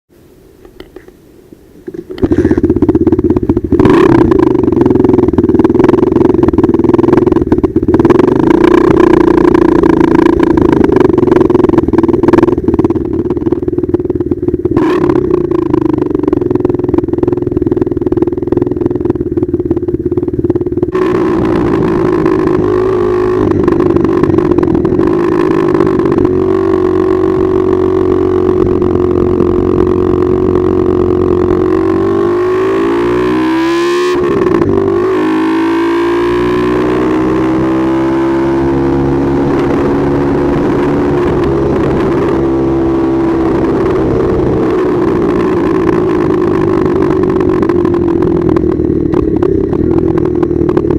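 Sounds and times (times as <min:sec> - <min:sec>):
pit bike engine running: 0:01.8 - 0:50.9.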